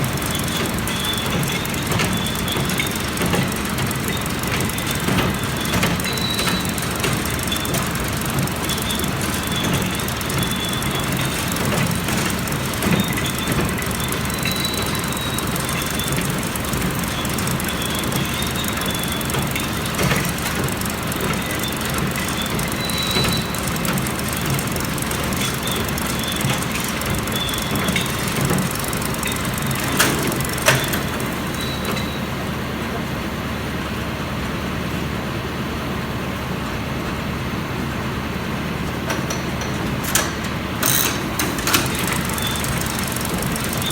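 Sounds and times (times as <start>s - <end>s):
short high-pitched squeals: 0.0s - 32.4s, 40.8s - 43.9s
baler mechanical running noise: 0.0s - 43.9s.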